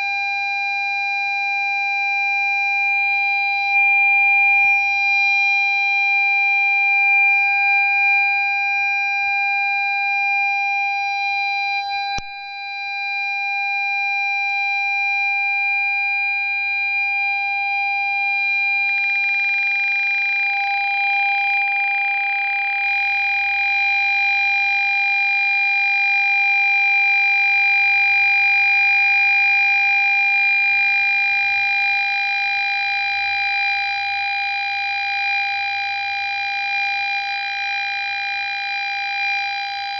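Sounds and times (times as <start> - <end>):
parking sensor steady tone: 0.0 - 39.9.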